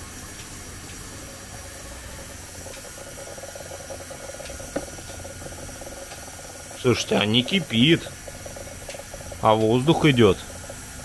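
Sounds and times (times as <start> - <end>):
coolant gurgling and hissing: 0.0 - 11.0.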